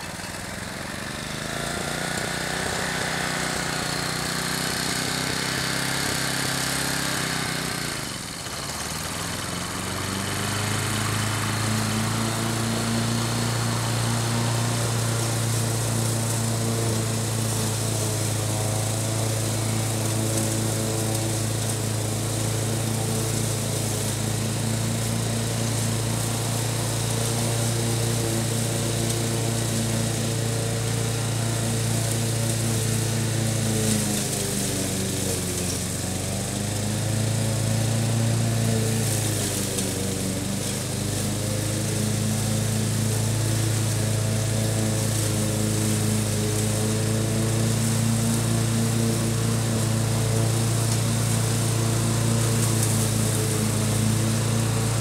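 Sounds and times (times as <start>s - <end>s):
ride-on mower engine cutting grass: 0.0s - 55.0s.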